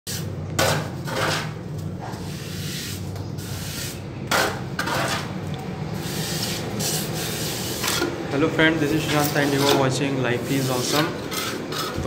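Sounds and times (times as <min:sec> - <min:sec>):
trowel scraping mortar: 0:00.1 - 0:05.3, 0:06.0 - 0:08.1, 0:08.7 - 0:12.0
steady low hum: 0:00.1 - 0:12.0.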